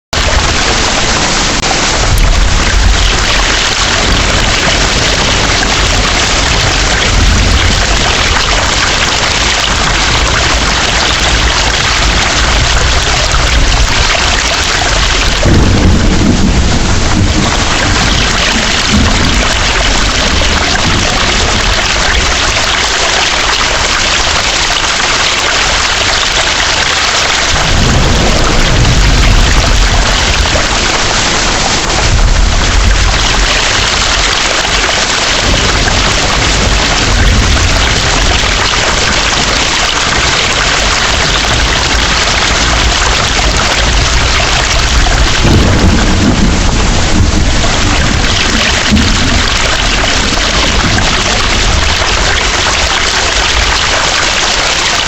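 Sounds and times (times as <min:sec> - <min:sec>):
heavy rain falling: 0:00.0 - 0:55.0
rolling thunder: 0:00.2 - 0:54.9.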